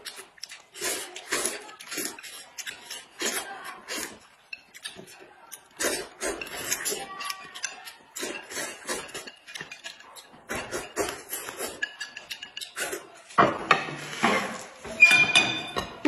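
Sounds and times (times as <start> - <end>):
noodles slurped and chewed: 0.0 - 13.4
chopsticks clinking on dishes: 1.2 - 13.1, 15.0 - 16.0.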